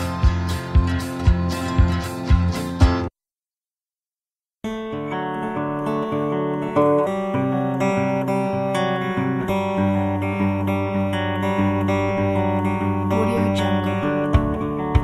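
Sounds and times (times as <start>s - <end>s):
acoustic guitar strumming chords: 0.0s - 3.1s, 4.7s - 15.0s.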